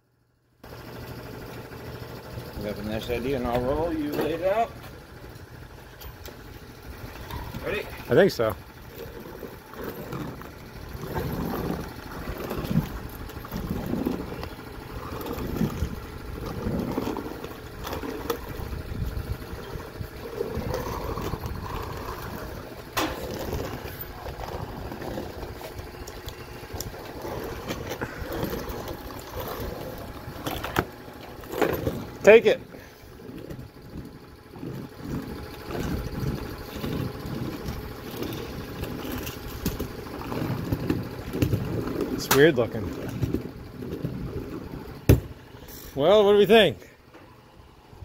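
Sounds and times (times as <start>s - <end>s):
laminate roller rumbling: 0.6s - 48.0s.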